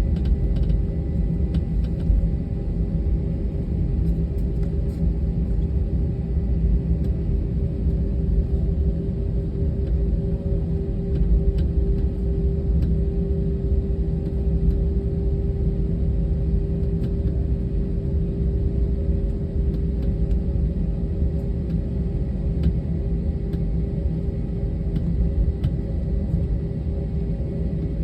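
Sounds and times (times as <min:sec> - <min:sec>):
airliner engines rumbling: 0:00.0 - 0:28.0.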